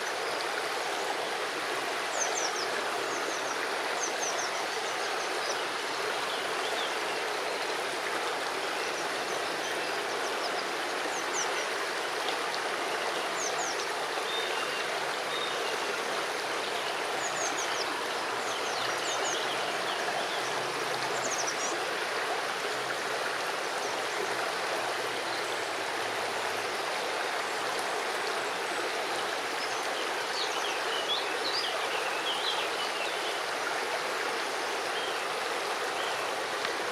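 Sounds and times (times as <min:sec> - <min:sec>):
river water flowing over stones: 0:00.0 - 0:36.9.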